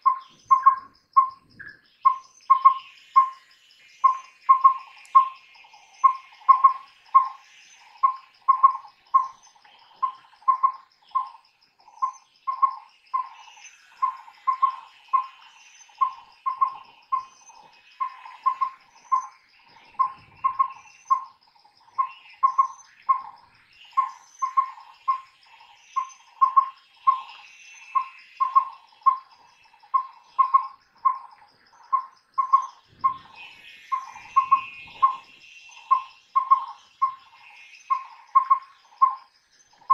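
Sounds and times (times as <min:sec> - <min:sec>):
birds chirping: 0:00.0 - 0:39.9
high insect trill: 0:00.0 - 0:39.9.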